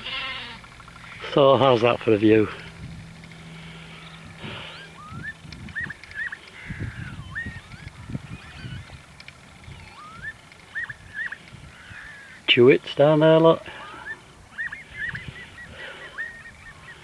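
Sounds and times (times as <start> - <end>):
lapwings calling: 0.0 - 17.0.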